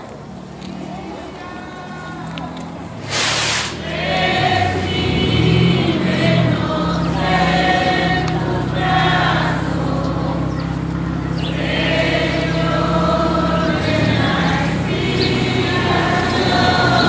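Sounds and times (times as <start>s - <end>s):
group singing a slow hymn: 1.4s - 17.0s.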